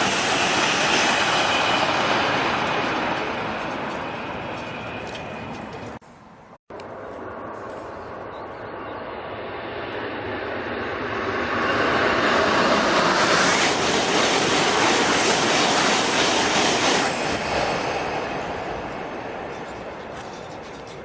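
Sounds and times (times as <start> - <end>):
bullet train passing: 0.0 - 21.0.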